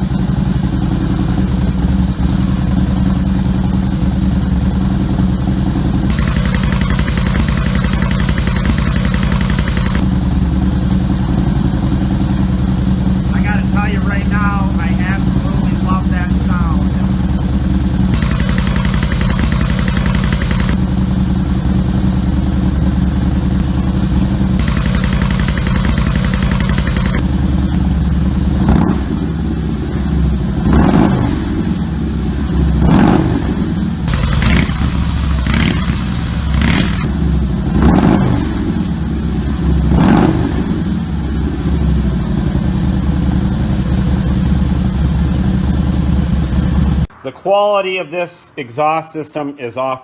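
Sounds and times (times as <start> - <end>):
motorcycle engine idling: 0.0 - 47.1
motorcycle engine revving: 0.0 - 47.1.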